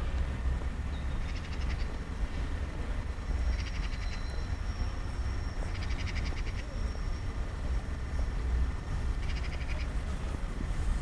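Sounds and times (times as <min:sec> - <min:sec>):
diesel train rumbling: 0:00.0 - 0:11.0.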